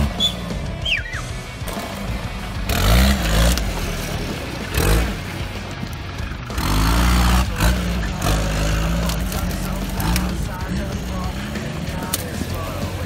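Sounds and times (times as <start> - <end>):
buggy engine revving hard: 0.0 - 13.0.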